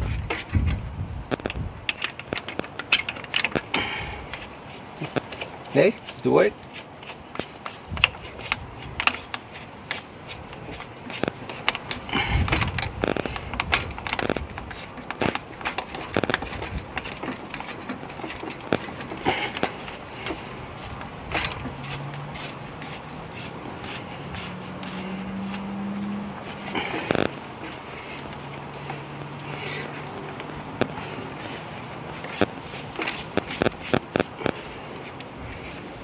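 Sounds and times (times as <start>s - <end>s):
hose scraping onto metal fitting: 0.0s - 36.0s.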